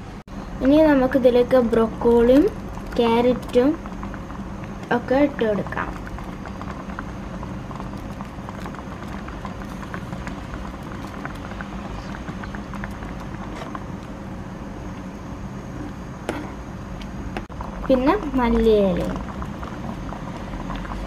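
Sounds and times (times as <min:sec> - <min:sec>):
low hum: 0:00.0 - 0:21.0
soup bubbling and popping: 0:00.6 - 0:21.0.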